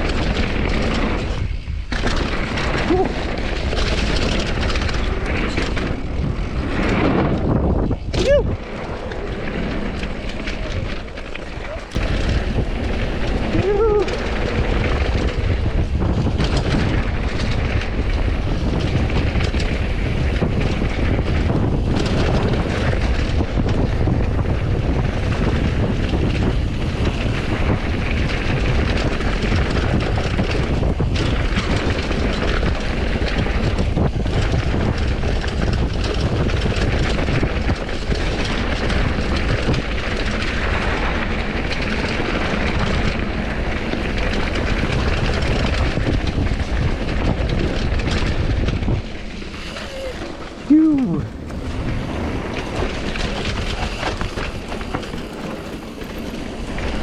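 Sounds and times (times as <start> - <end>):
bike rolling over dirt: 0.0 - 57.0
wind rush on microphone: 0.0 - 57.0.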